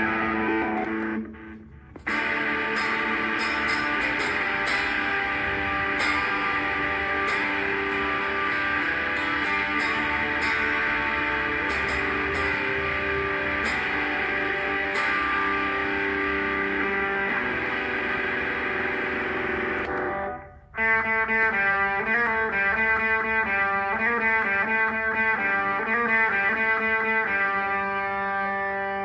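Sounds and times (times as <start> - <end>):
electric guitar picked notes: 0.0 - 29.0
electric guitar ringing chords: 0.0 - 29.0.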